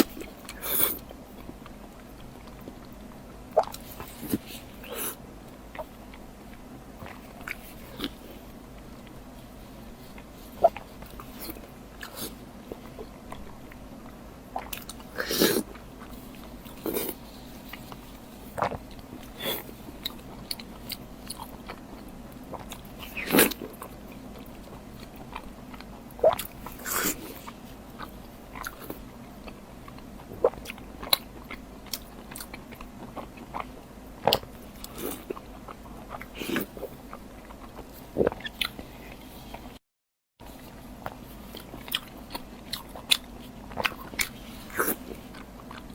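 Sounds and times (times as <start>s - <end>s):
chewing and mouth smacks: 0.0s - 39.8s, 40.6s - 45.9s
faint steady hum: 0.0s - 39.8s, 40.4s - 45.9s.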